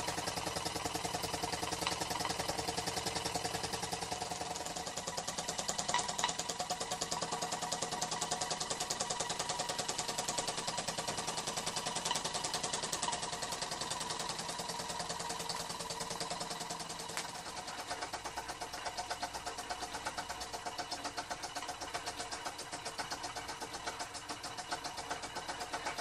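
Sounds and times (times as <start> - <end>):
model steam engine chuffing: 0.0 - 26.0.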